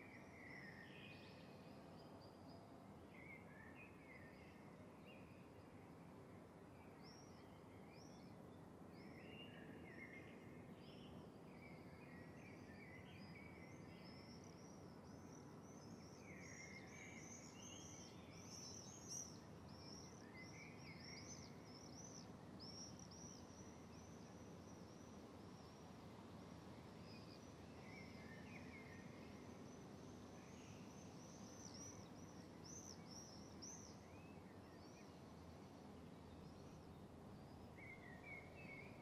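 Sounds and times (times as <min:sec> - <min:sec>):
low steady hiss: 0:00.0 - 0:39.0.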